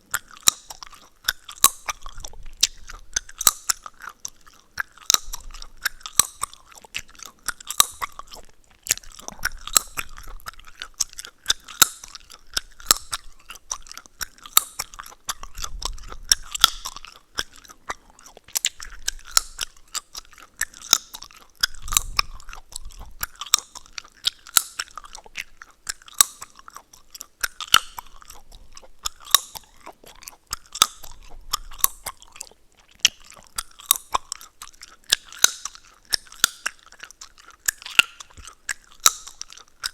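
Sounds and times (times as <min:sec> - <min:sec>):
gum chewing with wet smacking: 0:00.0 - 0:39.9
gum crackling pops: 0:00.1 - 0:39.9.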